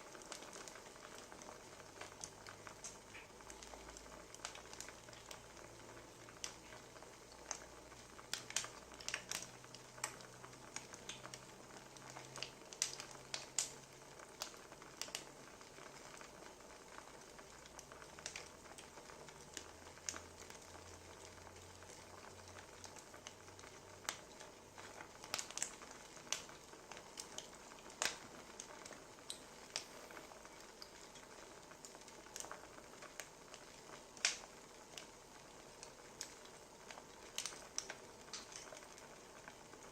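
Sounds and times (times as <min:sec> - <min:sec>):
hiss of burning logs: 0:00.0 - 0:39.9
wood fire crackling: 0:00.0 - 0:39.9.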